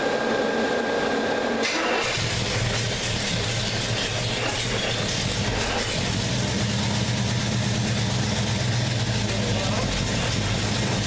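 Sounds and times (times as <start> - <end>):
car engine idling: 1.9 - 11.0.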